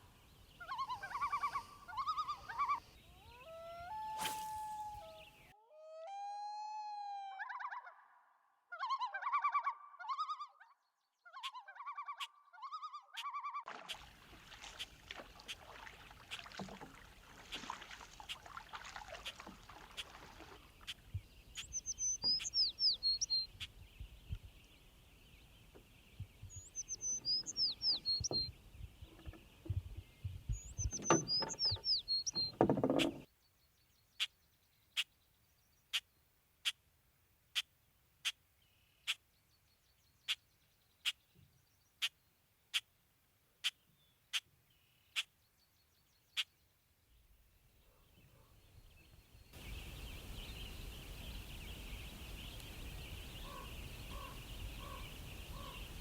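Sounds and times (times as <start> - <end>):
songbird chirping: 0.0 - 5.6, 7.5 - 36.8, 37.6 - 56.0.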